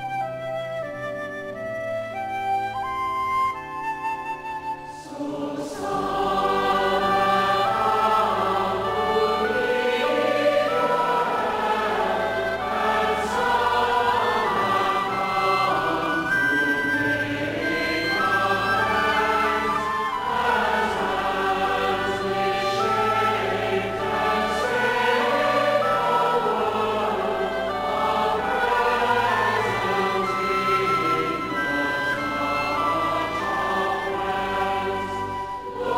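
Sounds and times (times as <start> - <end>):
congregation singing a hymn: 4.9 - 35.9.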